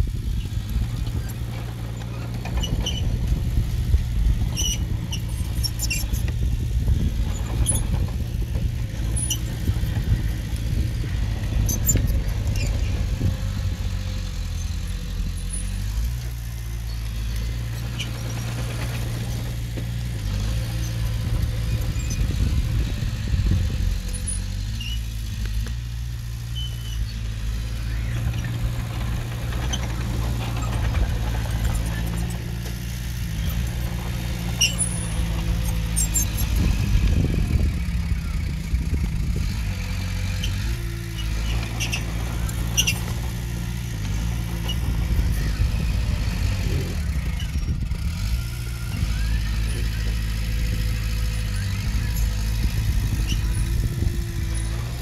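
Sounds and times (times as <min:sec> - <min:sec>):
heavy diesel engine running: 0:00.0 - 0:55.0
metallic squeaks and clicks: 0:01.0 - 0:03.2, 0:04.5 - 0:06.4, 0:07.2 - 0:13.6, 0:14.4 - 0:22.5, 0:24.0 - 0:25.8, 0:26.5 - 0:36.8, 0:40.3 - 0:46.6, 0:47.2 - 0:55.0.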